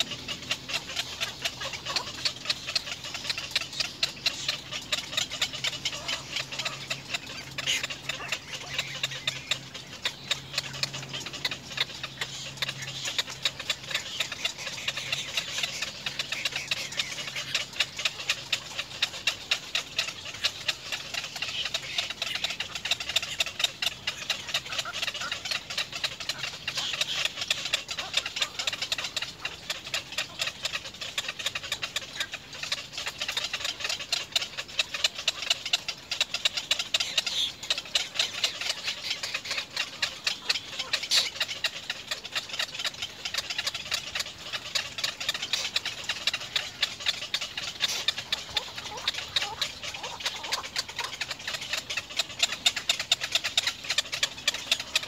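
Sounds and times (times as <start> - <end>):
egret chicks clicking chatter: 0.0 - 55.0.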